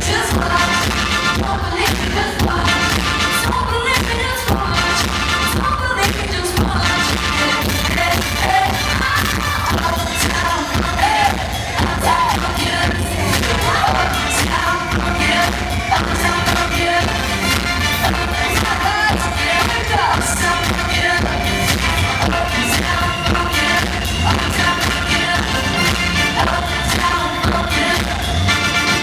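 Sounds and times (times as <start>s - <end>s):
driving drum beat: 0.0s - 29.0s
live pop-funk band: 0.0s - 29.0s
young people singing: 0.0s - 29.0s.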